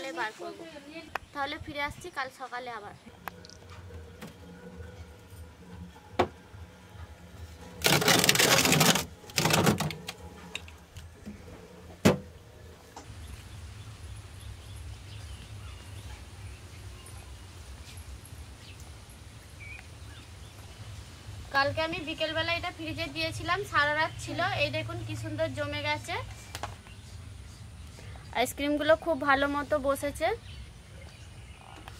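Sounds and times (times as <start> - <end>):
low background noise: 0.0 - 31.9.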